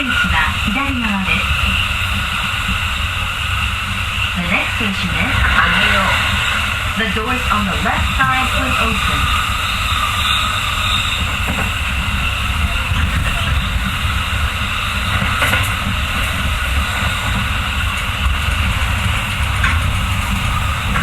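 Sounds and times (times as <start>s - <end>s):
constant hiss: 0.0s - 21.0s
train wheels rumbling on rails: 0.0s - 21.0s.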